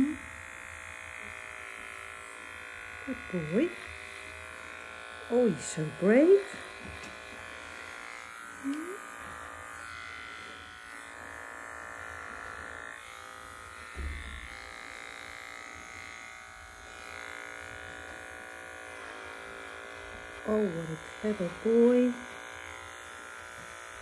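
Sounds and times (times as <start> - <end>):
electric clipper humming: 0.0 - 24.0.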